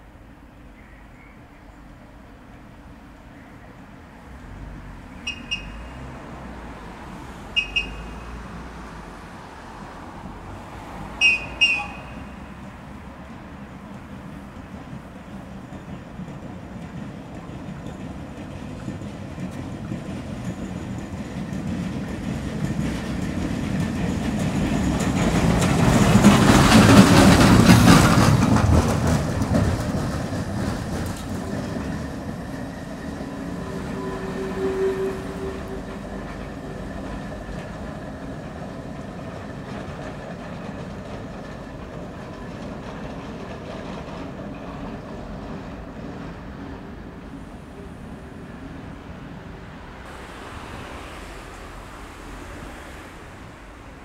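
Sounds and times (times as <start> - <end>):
tram wheels rumbling over rails: 0.0 - 54.0.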